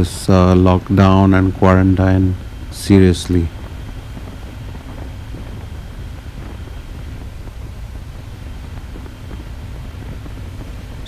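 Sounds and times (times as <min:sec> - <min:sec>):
motorcycle engine and road noise: 0:00.0 - 0:11.0
wind rush: 0:00.0 - 0:11.0.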